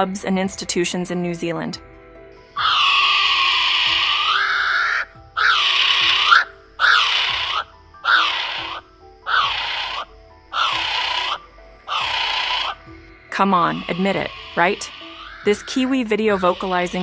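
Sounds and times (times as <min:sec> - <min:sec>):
kiwi calling: 0:02.5 - 0:17.0.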